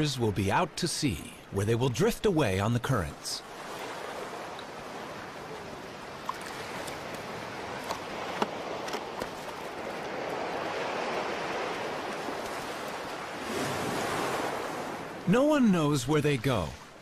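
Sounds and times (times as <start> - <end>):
surf washing up beach: 0.0 - 17.0.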